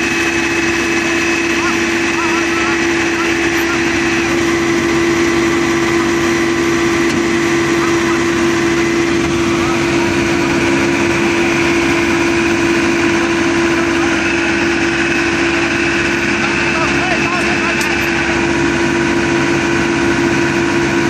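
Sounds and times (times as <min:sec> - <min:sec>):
crawler tractor engine droning: 0:00.0 - 0:21.0.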